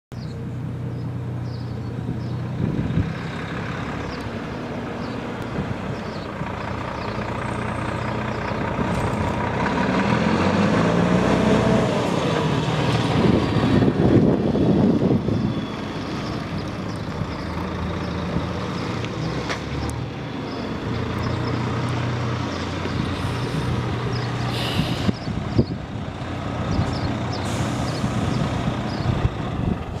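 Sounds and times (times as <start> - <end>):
truck diesel engine running: 0.2 - 30.0.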